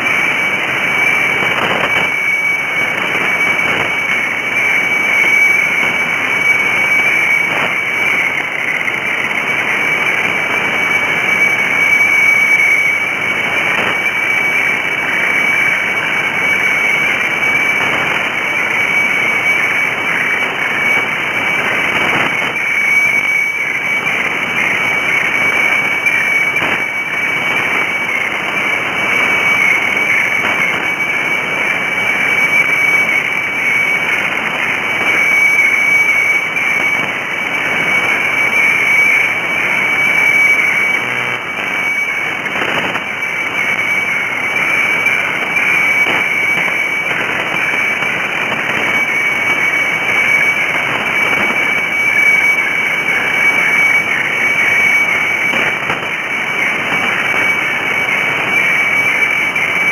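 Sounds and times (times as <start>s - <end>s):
radio hiss and static: 0.0s - 59.9s
steady high radio tone: 0.0s - 59.9s.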